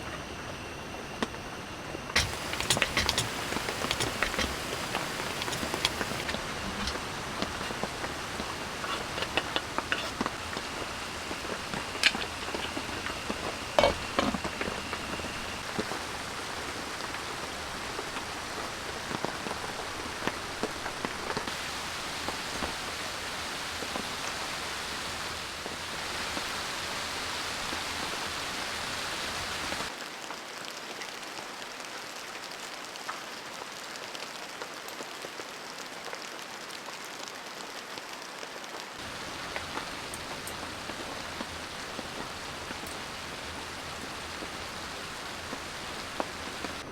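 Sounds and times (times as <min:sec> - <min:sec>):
steady rain falling: 0:02.1 - 0:46.9.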